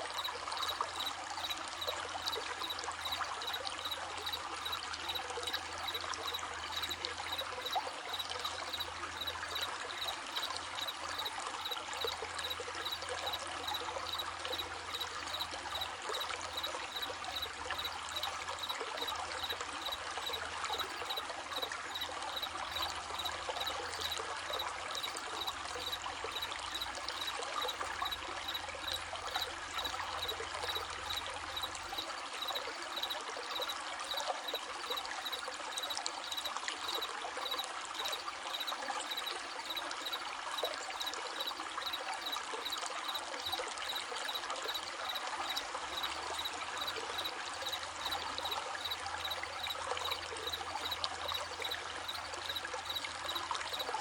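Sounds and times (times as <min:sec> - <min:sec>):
crickets chirping: 0:00.0 - 0:54.0
stream babbling: 0:00.0 - 0:54.0.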